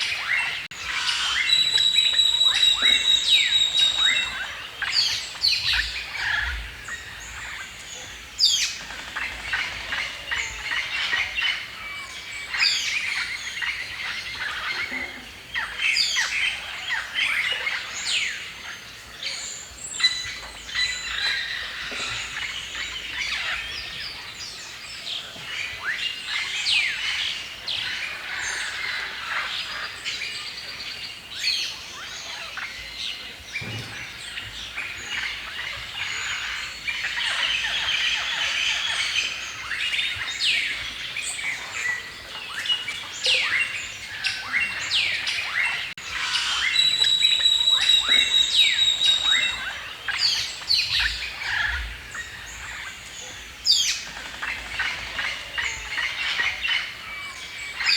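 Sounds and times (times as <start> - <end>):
forest birds chirping: 0.0 - 57.9.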